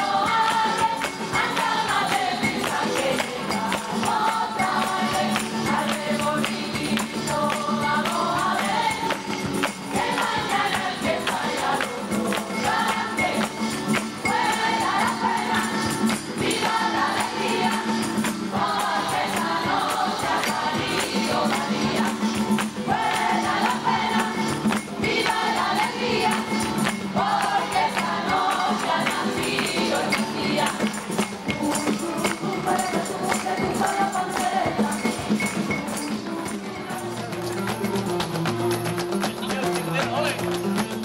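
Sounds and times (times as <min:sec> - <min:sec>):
choir singing: 0:00.0 - 0:37.9
jingling percussion: 0:00.0 - 0:41.0.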